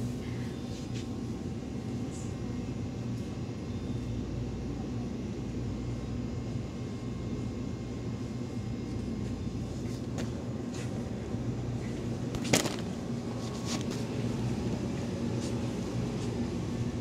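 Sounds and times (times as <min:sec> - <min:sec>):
shop background hum: 0:00.0 - 0:17.0.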